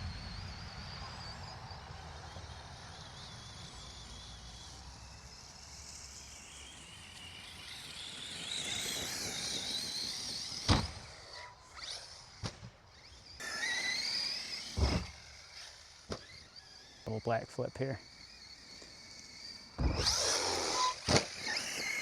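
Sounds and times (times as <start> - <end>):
electric rc truck motor whining: 0.0 - 22.0.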